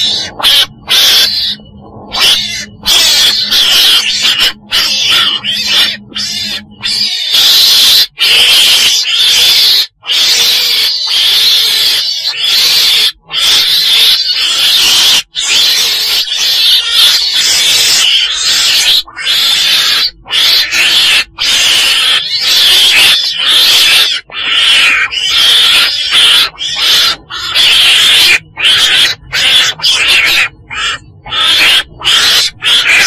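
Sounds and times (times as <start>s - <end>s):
weasel harsh hissy calls: 0.0s - 33.0s.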